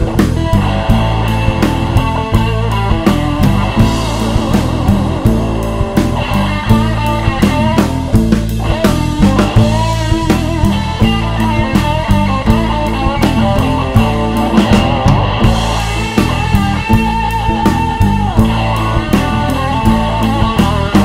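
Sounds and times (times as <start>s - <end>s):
bass guitar: 0.0s - 21.0s
drum kit steady beat: 0.0s - 21.0s
electric guitar: 0.0s - 21.0s.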